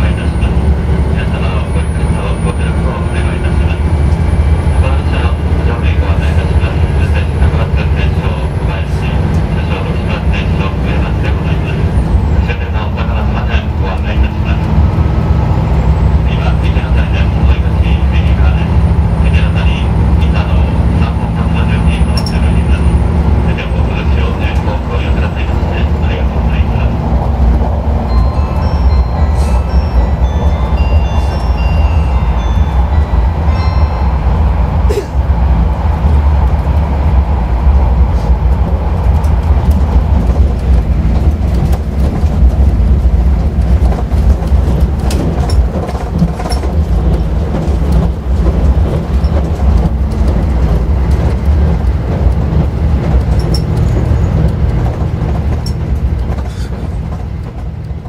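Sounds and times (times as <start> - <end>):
train chime: 0.0 - 35.7, 43.4 - 57.2
rail joint clicks: 0.0 - 58.0
train engine and wheels rumble: 0.0 - 58.0.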